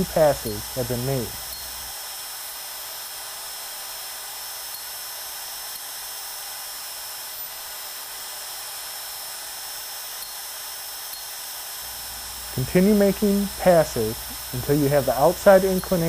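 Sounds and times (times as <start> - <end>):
grinding motor whining: 0.0 - 2.0, 2.7 - 16.0.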